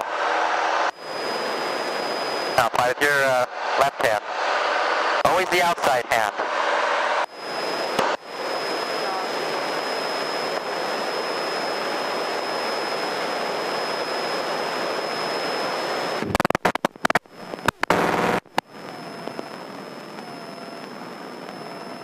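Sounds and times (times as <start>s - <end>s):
propeller airplane cabin noise: 0.0s - 22.0s
thin high whine: 0.0s - 22.0s.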